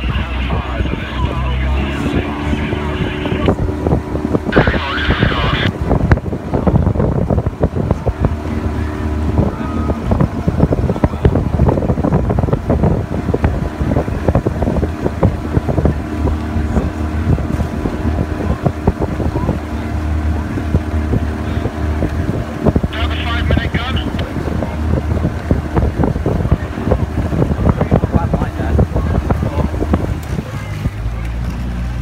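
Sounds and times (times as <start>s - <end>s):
boat motor running: 0.0s - 32.0s
wind buffeting microphone: 0.0s - 32.0s.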